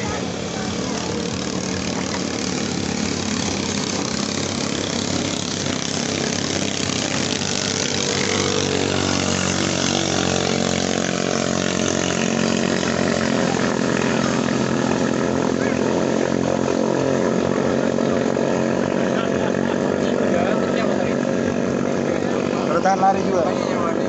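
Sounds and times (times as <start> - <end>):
racing boat engines buzzing: 0.0 - 24.0.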